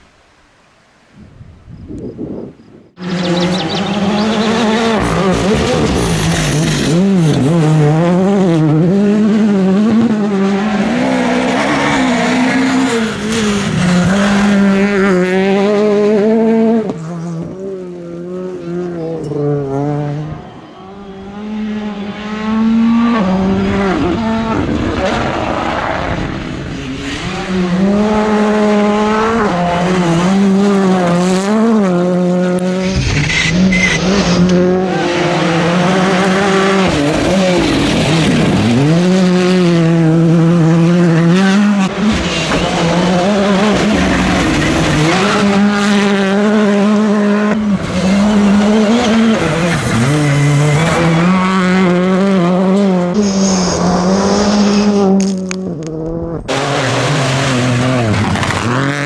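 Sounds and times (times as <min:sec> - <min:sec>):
rally car engines revving: 0:03.0 - 0:59.0.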